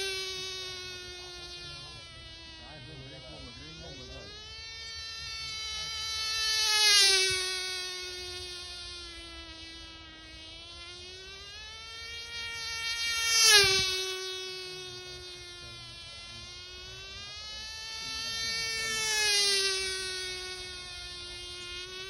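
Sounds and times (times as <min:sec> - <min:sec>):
model airplane engine buzzing: 0:00.0 - 0:22.0.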